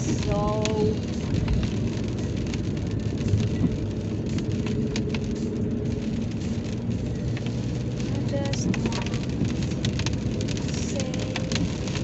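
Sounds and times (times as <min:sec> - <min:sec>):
raindrops tapping on car: 0:00.0 - 0:12.0
road and engine rumble: 0:00.0 - 0:12.0.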